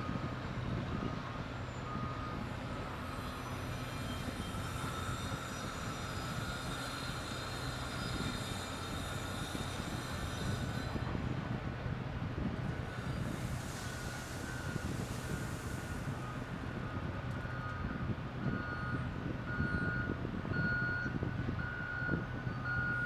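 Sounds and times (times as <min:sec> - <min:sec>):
low diesel engine drone: 0:00.0 - 0:23.0.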